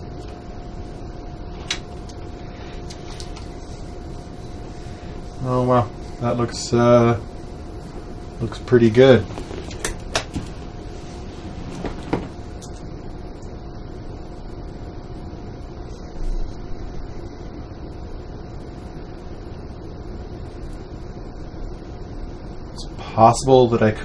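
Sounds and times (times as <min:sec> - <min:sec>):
room hum with faint whine: 0:00.0 - 0:24.0.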